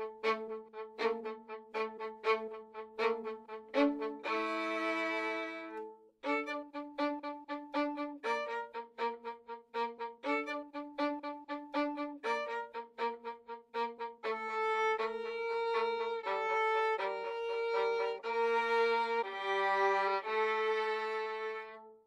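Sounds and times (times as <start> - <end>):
solo violin melody: 0.0 - 22.0.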